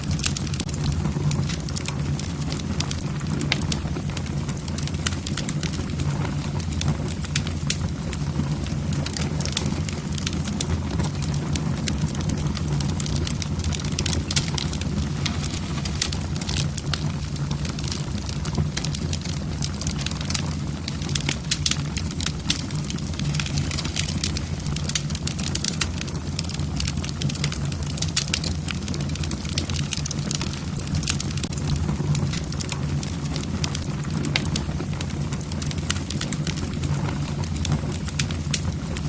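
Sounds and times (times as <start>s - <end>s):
low fire rumble: 0.0s - 39.0s
wood fire crackling: 0.0s - 39.0s.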